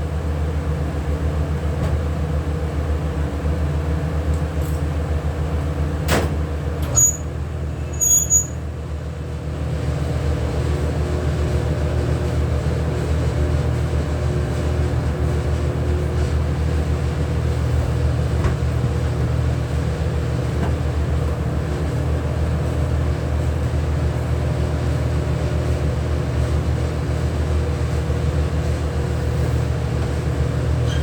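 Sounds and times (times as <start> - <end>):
low machine motor hum: 0.0 - 31.0.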